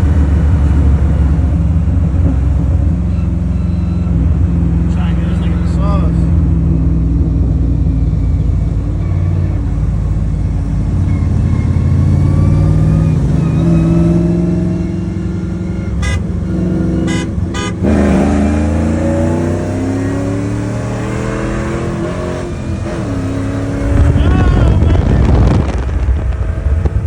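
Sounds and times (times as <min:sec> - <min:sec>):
truck engine accelerating hard: 0:00.0 - 0:27.0.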